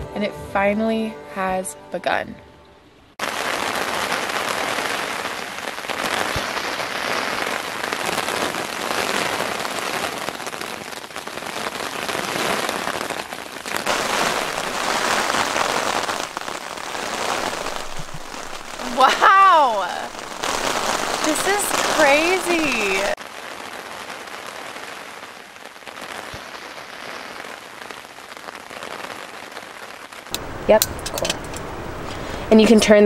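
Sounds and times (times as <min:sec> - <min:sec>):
heavy rain on a tent: 0:03.2 - 0:32.5.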